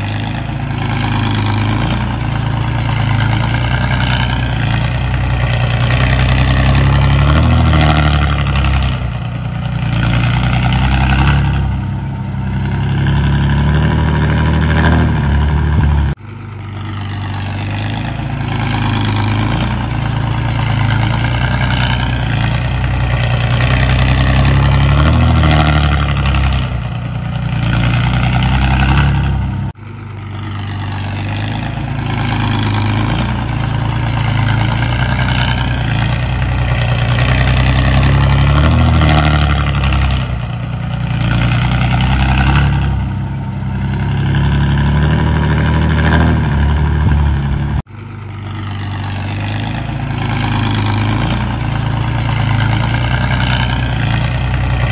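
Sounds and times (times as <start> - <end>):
heavy diesel engine under load: 0.0 - 54.9.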